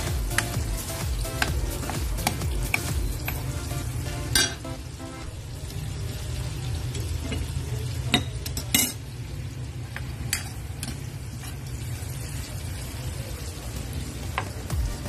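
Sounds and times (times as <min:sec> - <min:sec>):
onions sauteing in oil: 0:00.0 - 0:15.0.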